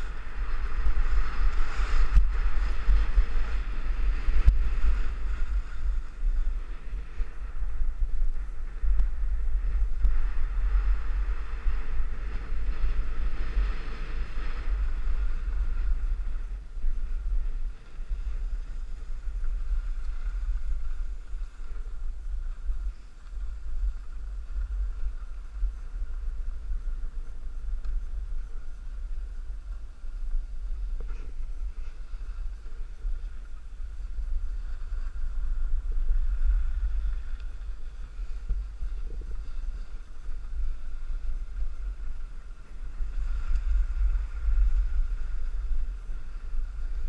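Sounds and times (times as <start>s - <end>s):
snowboard sliding over snow: 0.0s - 47.0s
wind buffeting microphone: 0.0s - 47.0s.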